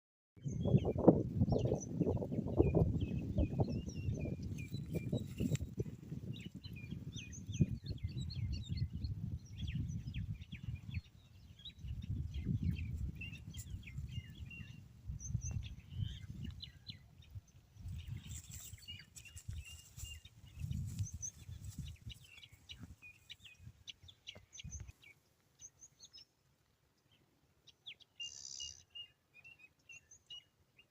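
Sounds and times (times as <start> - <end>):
small birds chirping: 0.4 - 30.9.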